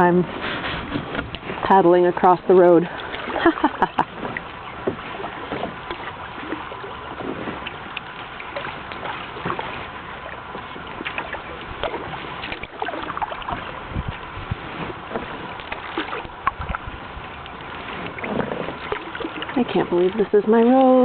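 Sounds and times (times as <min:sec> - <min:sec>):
paddle splashing in water: 0:00.0 - 0:21.0.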